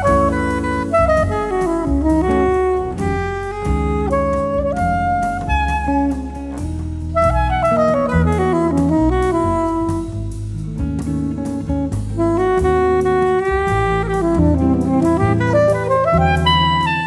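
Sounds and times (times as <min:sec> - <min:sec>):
jazz music: 0:00.0 - 0:17.0.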